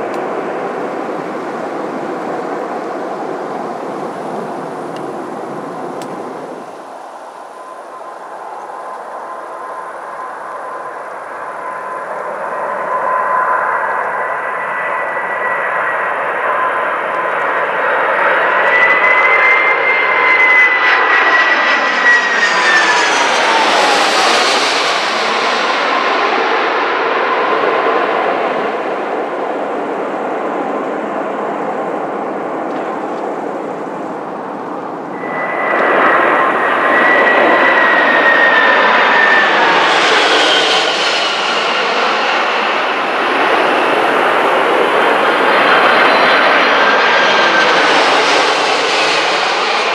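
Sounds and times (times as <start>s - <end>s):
jet airliner passing overhead: 0.0s - 49.9s.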